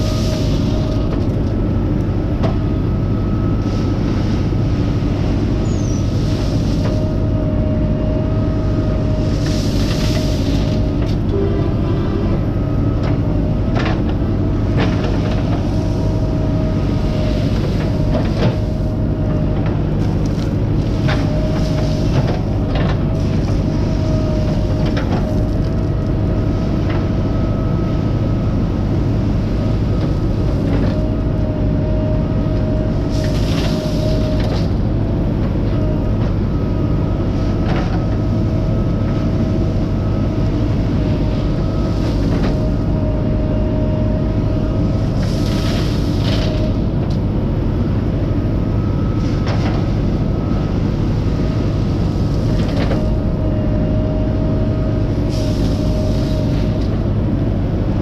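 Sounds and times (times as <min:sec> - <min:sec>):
diesel engine running under load: 0:00.0 - 0:58.0
steady whine: 0:00.0 - 0:58.0.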